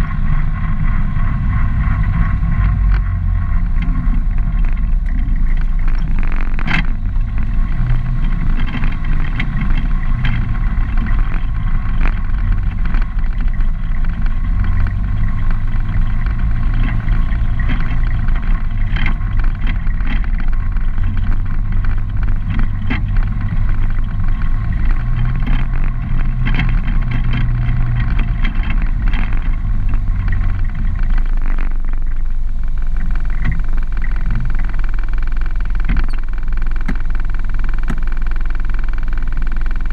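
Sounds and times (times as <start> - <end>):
atv engine running: 0.0 - 39.9
scattered clicks: 0.0 - 39.9.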